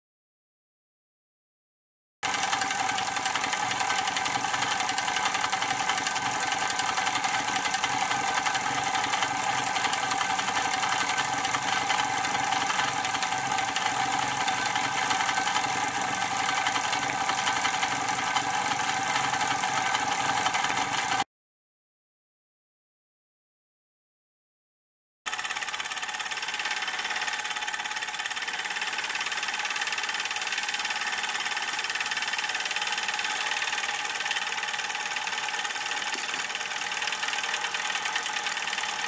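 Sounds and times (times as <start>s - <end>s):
toy steam engine chuffing: 2.2s - 21.2s, 25.3s - 39.0s.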